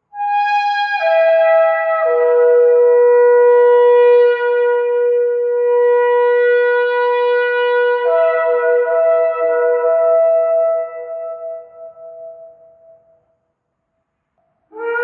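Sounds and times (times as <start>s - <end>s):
shofar blowing a long blast: 0.1s - 13.0s, 14.7s - 15.0s.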